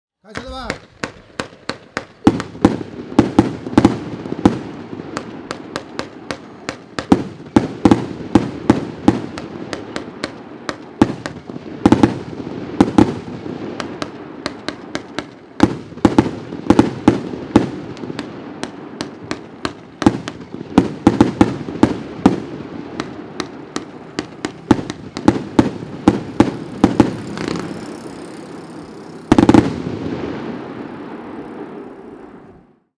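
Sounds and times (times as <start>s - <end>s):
firework launch thumps: 0.3s - 27.7s
firework shells bursting: 0.3s - 28.3s, 29.3s - 29.9s
firework crackling: 0.3s - 32.8s.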